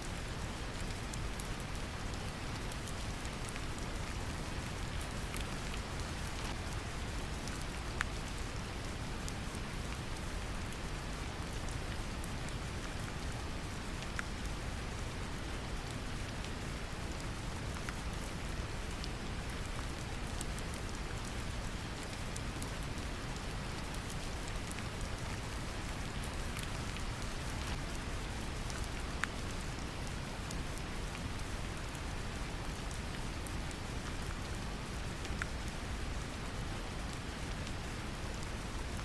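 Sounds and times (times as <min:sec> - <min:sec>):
gentle rain: 0:00.0 - 0:39.0.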